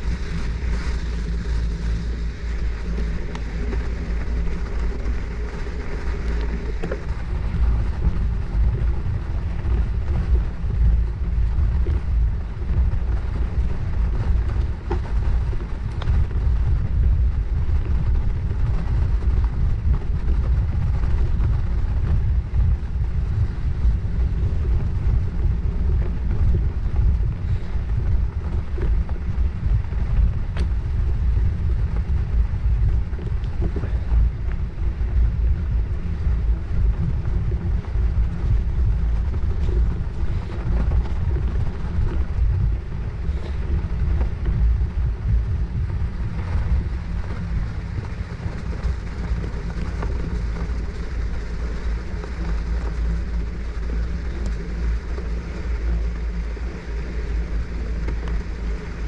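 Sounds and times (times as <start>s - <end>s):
bicycle tyres rolling: 0.0s - 59.0s
wind buffeting microphone: 0.0s - 59.0s.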